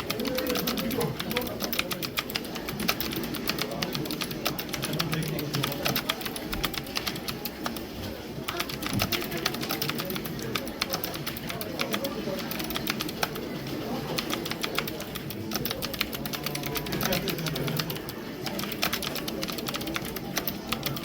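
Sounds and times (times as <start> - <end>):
computer keyboard typing fast: 0.0 - 21.0.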